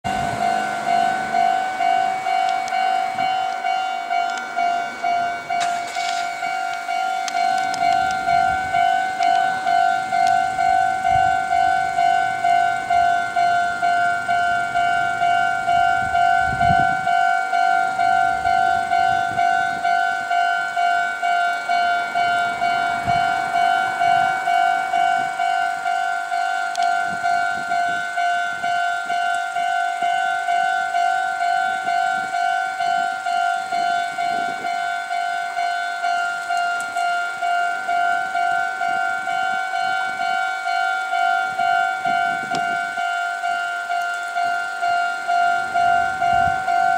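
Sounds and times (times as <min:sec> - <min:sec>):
level crossing bell ringing: 0:00.0 - 0:46.9
train passing: 0:00.0 - 0:46.9.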